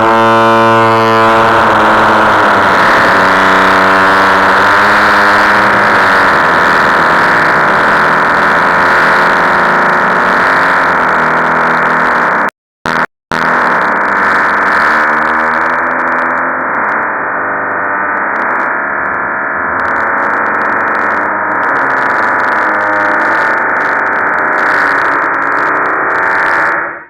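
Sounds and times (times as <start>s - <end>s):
dense drone of fart sounds: 0.0s - 27.0s.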